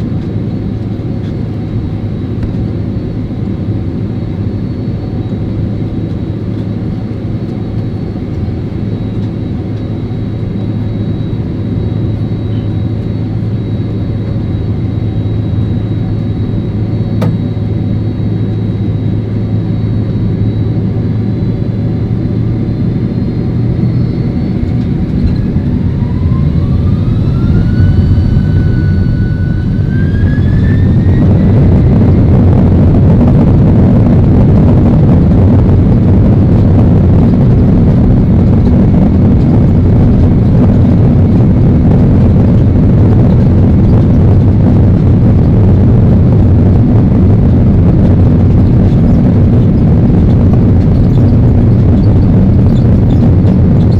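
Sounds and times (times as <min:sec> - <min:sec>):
jet engines spooling up: 0:00.0 - 0:53.9.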